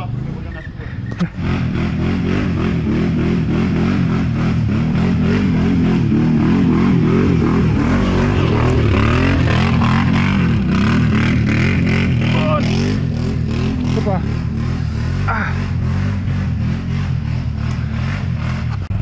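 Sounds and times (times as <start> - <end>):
quad bike engine revving: 0.0 - 19.0.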